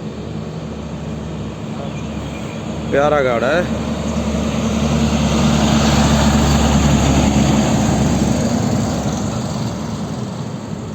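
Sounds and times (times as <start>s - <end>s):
heavy truck engine droning: 0.0s - 10.9s.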